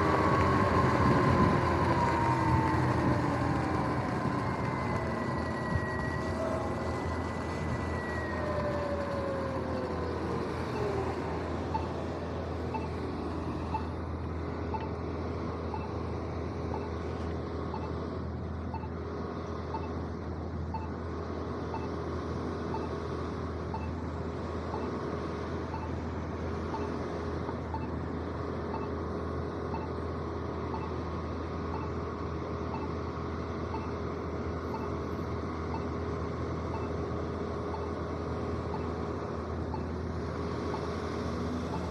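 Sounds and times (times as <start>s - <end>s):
pedestrian signal ticking tone: 0.0s - 19.0s, 19.6s - 21.0s, 21.6s - 41.0s, 41.6s - 41.9s
traffic at intersection: 0.0s - 41.9s.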